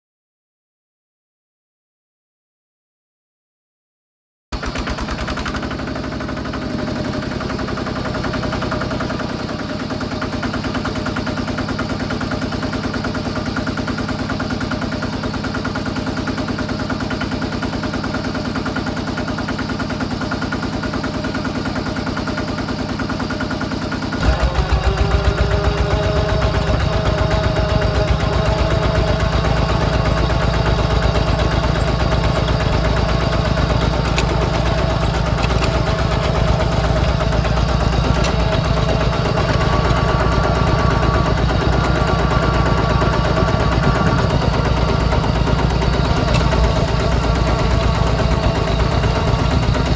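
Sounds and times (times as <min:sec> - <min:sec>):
diesel engine chugging: 0:04.6 - 0:49.9.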